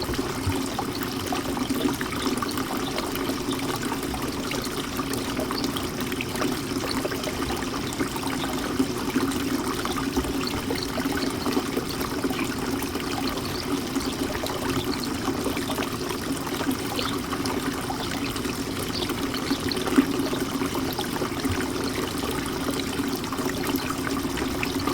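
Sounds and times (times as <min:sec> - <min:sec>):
fountain water trickling: 0:00.0 - 0:24.9.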